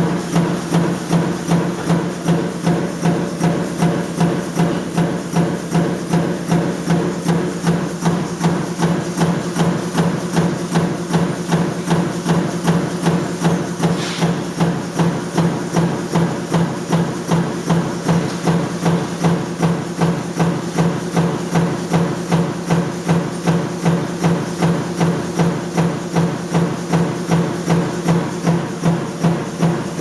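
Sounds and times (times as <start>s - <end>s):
stamping press striking: 0.0s - 30.0s.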